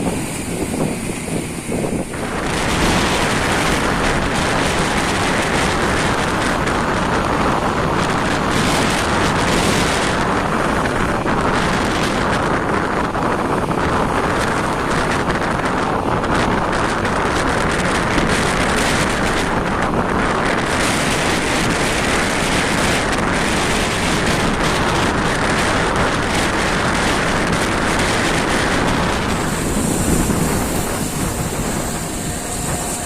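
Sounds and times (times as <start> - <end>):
sea waves rushing: 0.0 - 15.3, 16.2 - 33.0
wind blasting microphone: 0.0 - 33.0.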